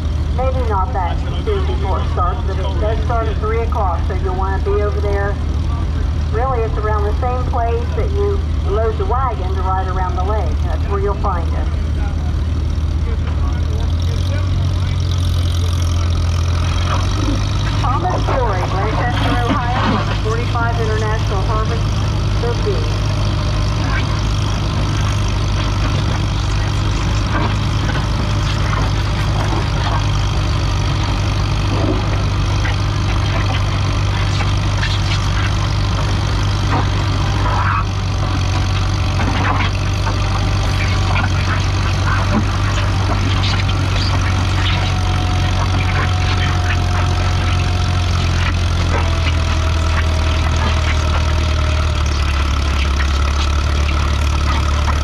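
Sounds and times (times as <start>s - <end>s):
sled clicks and clanks: 0.0s - 55.0s
tractor engine under load: 0.0s - 55.0s.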